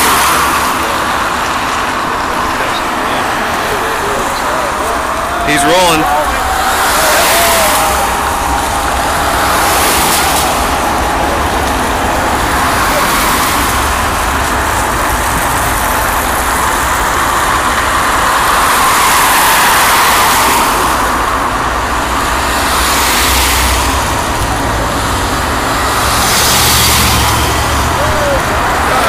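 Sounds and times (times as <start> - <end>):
jet engines at takeoff thrust: 0.0 - 29.0.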